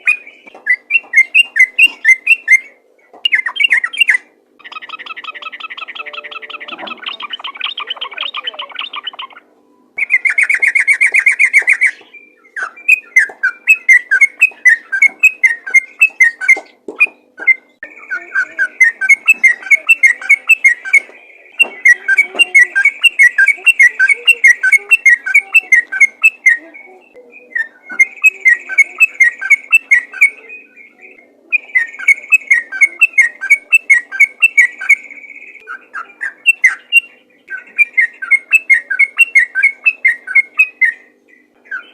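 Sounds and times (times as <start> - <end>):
bulbul chirping song: 0.0 - 41.9.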